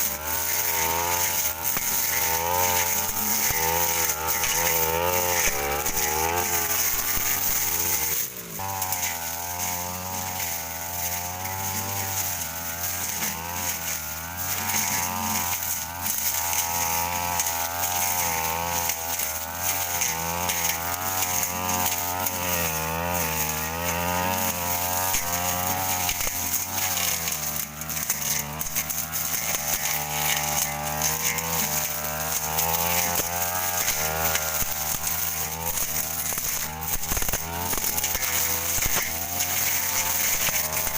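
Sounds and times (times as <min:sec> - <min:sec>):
brush cutter slashing weeds: 0:00.0 - 0:40.9.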